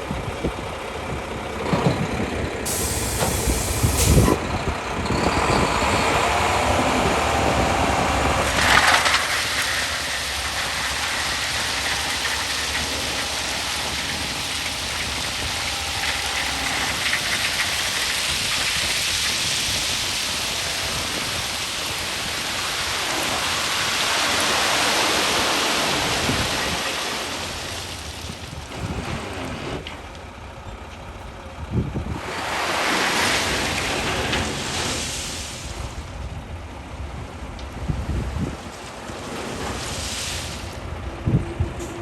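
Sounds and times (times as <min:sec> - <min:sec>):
stone ballast pouring from truck: 0:02.6 - 0:30.1, 0:32.1 - 0:36.1, 0:38.4 - 0:40.9.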